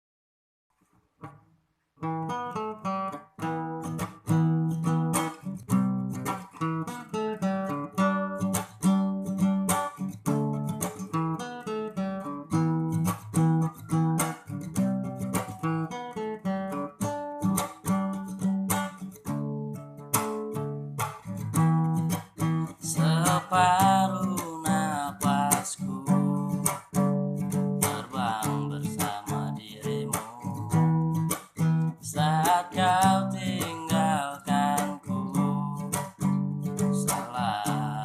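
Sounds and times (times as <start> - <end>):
acoustic guitar strumming chords: 2.0 - 38.0.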